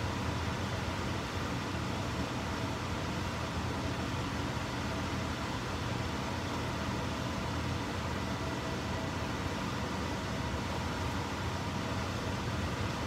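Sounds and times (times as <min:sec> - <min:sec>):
electric fan rushing air: 0:00.0 - 0:13.0
faint motor hum: 0:00.0 - 0:13.0.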